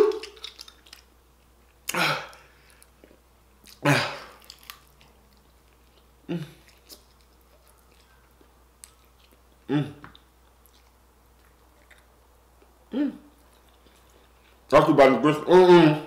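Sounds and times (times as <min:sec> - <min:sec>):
faint chewing: 0:00.0 - 0:14.7.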